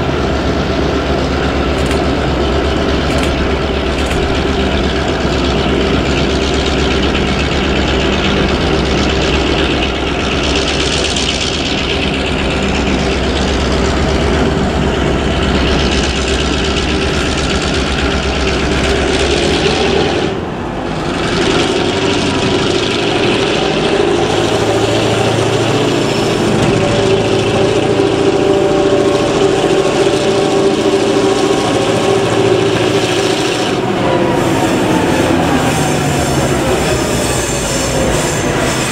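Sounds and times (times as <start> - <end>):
deep low hum: 0.0 - 38.5
diesel locomotive engine drone: 0.0 - 38.9.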